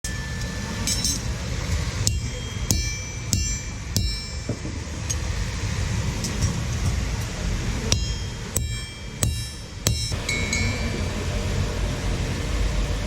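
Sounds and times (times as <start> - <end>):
hammer striking metal: 0.0 - 5.5, 6.1 - 11.3
low rumble: 0.0 - 13.0.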